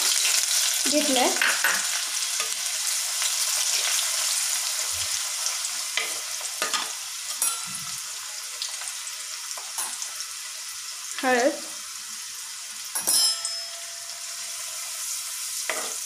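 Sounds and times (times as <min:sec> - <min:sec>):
onion sizzling in oil: 0:00.0 - 0:16.0.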